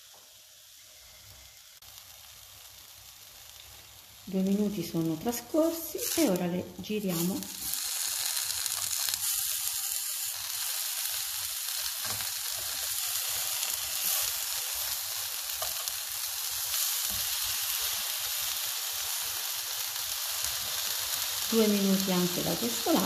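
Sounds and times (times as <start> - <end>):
eggplant sizzling in a pan: 0.0 - 23.0.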